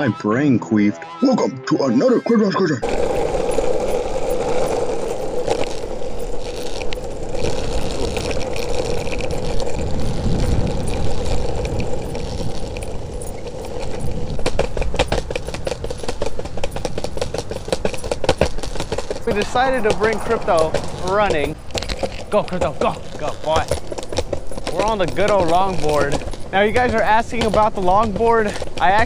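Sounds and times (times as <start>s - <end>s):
longboard wheels rolling on asphalt: 2.8s - 29.0s.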